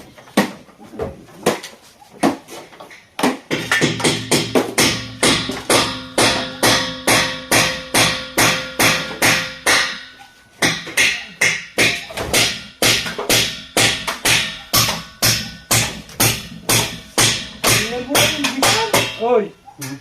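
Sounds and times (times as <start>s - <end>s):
hammer driving nails: 3.2s - 19.2s.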